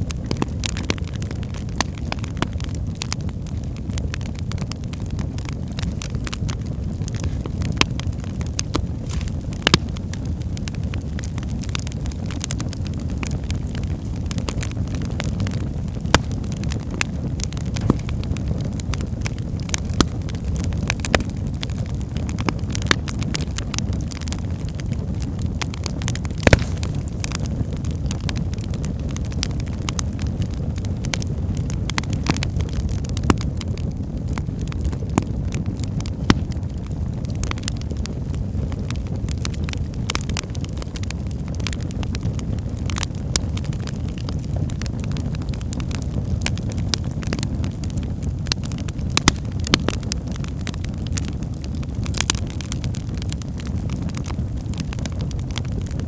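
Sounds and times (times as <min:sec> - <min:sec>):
flames rumbling: 0:00.0 - 0:56.0
logs crackling and popping: 0:00.0 - 0:56.0.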